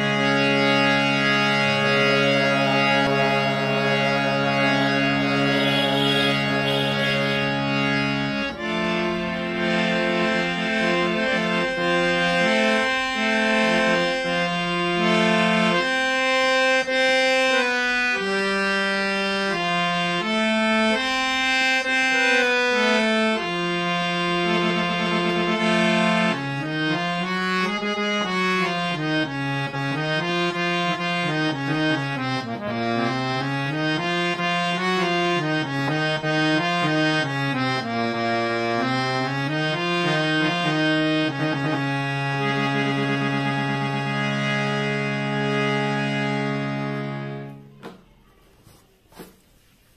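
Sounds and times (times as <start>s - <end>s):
harmonium melody: 0.0s - 48.1s.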